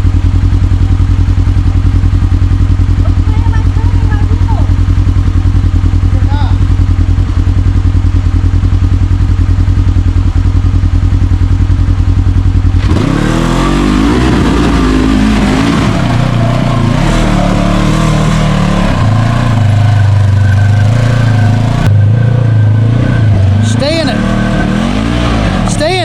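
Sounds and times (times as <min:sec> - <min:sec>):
utility vehicle engine revving: 0:00.0 - 0:26.0.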